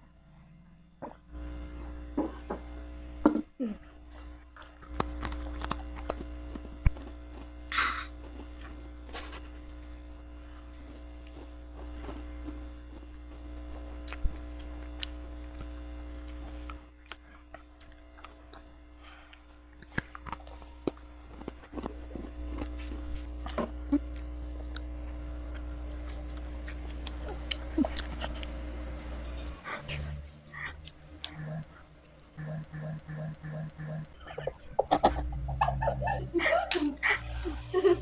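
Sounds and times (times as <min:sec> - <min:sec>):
steady electrical hum: 0:00.0 - 0:38.0.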